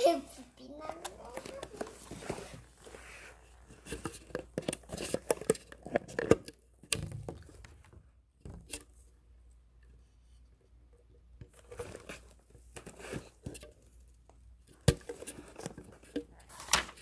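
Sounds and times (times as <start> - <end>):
rustling and crinkling: 0.0 - 9.1, 11.3 - 17.0.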